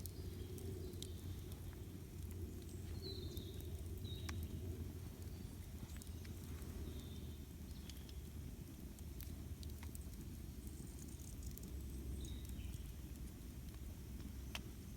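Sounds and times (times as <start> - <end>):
fire crackling and popping: 0.0 - 14.9.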